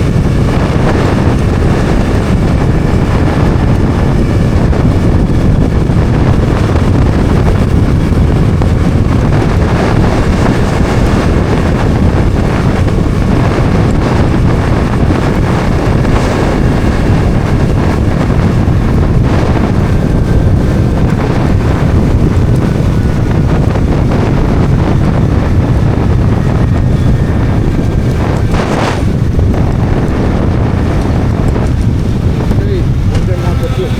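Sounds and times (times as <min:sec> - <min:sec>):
motorcycle engine hum: 0:00.0 - 0:33.9
wind noise on microphone: 0:00.0 - 0:33.9.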